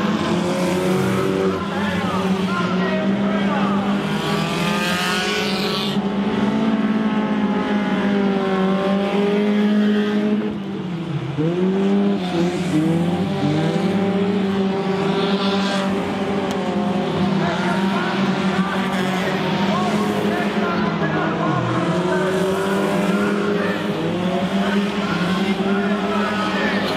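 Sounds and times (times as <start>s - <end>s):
race car engines running hard: 0.0s - 26.9s.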